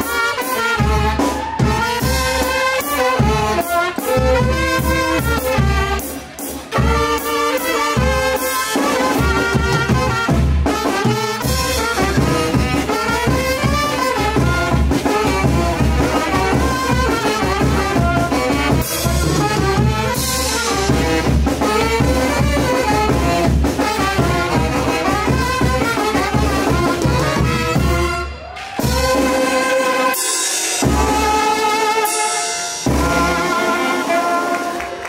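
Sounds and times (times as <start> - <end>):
brass band playing: 0.0 - 35.0.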